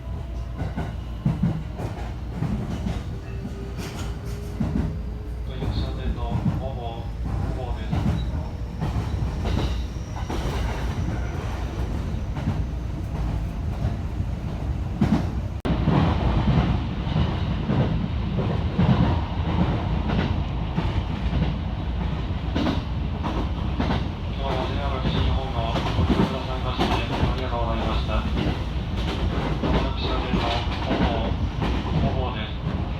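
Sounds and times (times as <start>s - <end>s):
train rumbling on track: 0.0s - 32.9s.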